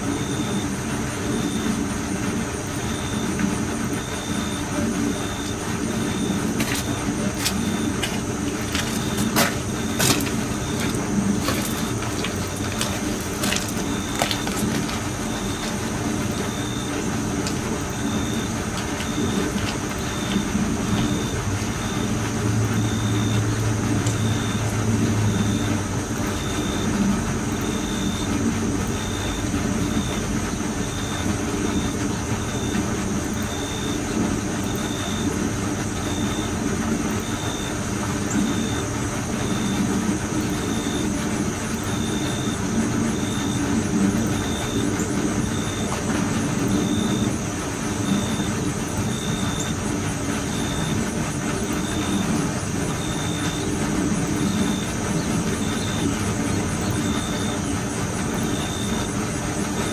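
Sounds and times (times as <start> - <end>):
machinery rumbling: 0.0 - 59.9.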